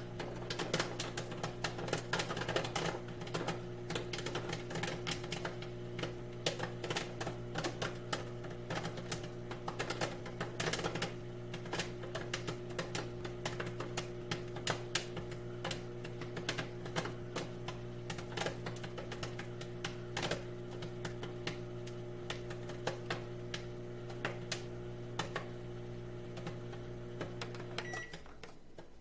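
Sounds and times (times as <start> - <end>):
microwave oven hum: 0.0 - 29.0
popcorn popping: 0.0 - 29.0.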